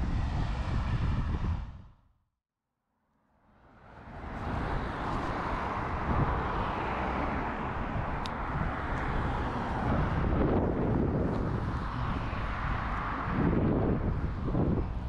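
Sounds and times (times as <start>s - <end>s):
wind on microphone: 0.0s - 2.0s, 4.1s - 15.0s.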